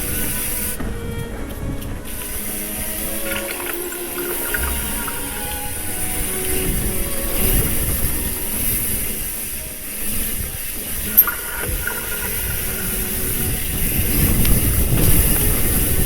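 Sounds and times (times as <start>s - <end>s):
bike tyres rumbling on dirt: 0.0s - 16.0s
wind hiss: 0.0s - 16.0s.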